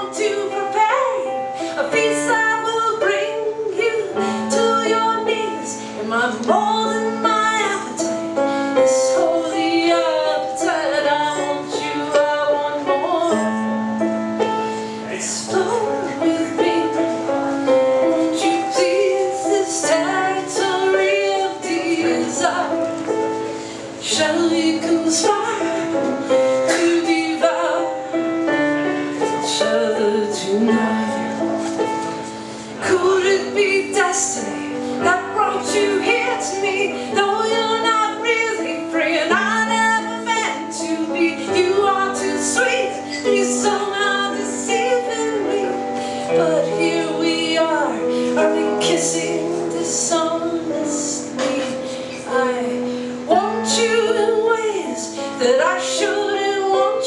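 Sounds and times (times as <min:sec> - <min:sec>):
piano chords: 0:00.0 - 0:57.0
woman singing: 0:00.0 - 0:57.0.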